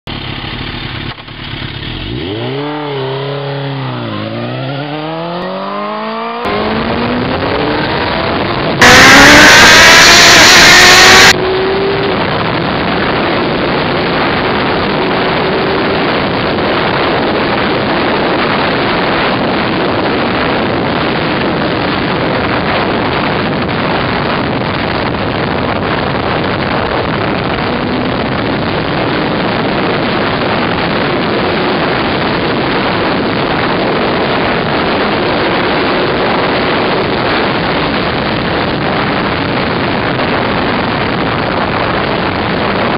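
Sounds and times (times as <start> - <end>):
motorcycle engine revving: 0.1 - 40.7
wind rush on microphone: 2.8 - 42.9.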